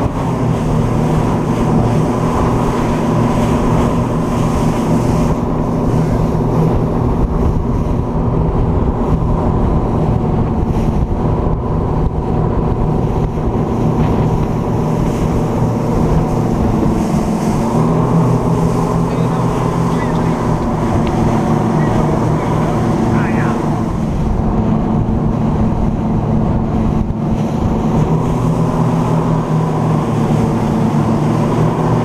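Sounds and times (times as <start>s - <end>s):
boat engine running: 0.0s - 32.0s
water noise: 0.0s - 32.0s
wind: 0.0s - 32.0s.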